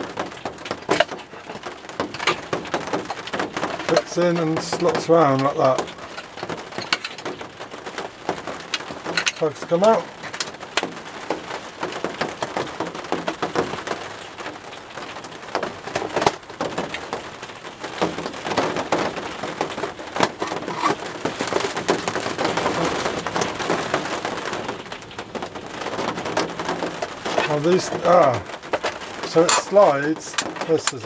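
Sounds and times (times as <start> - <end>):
plastic clicks and rustles: 0.0 - 31.0
rain on a plastic roof: 0.0 - 31.0.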